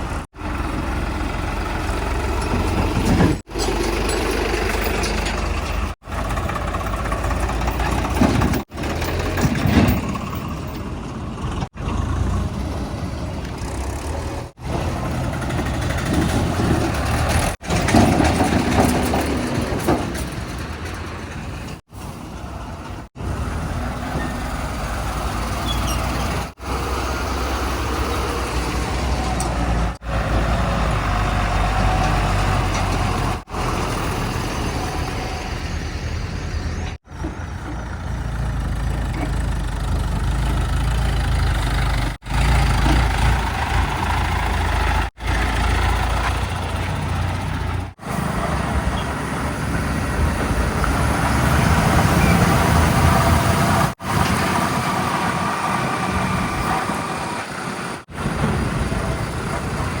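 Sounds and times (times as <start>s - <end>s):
heavy diesel engines rumbling: 0.0s - 60.0s.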